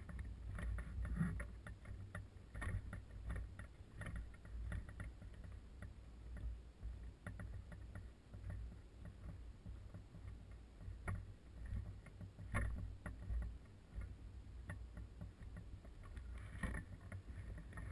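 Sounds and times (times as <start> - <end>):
light knocks and clicks: 0.0 - 17.9.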